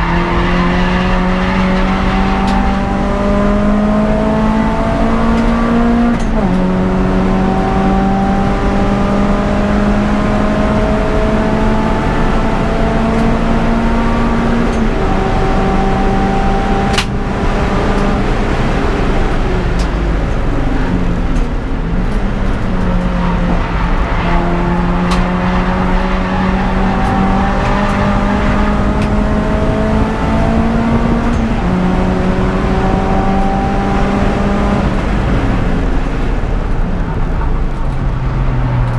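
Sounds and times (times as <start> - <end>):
car engine revving hard: 0.0 - 19.9, 22.4 - 36.6.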